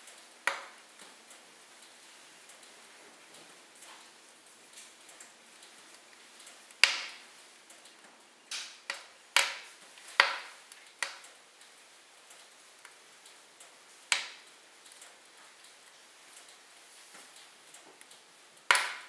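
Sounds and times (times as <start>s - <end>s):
burning log popping: 0.0s - 1.4s, 4.7s - 19.0s
faint hiss: 0.0s - 19.0s
wood fire crackling: 0.0s - 19.0s.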